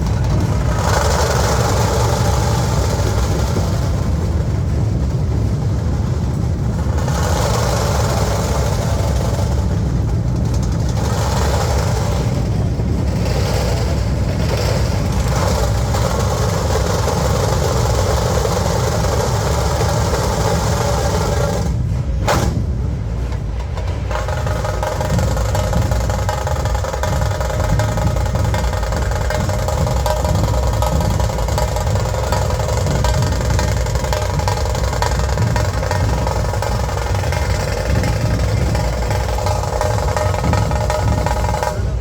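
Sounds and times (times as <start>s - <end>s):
massed drums playing loudly: 0.0s - 42.0s.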